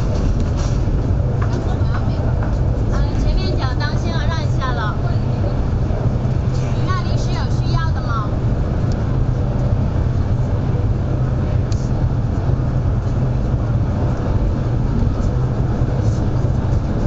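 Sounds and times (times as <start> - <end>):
train rumble inside passenger car: 0.0 - 17.0.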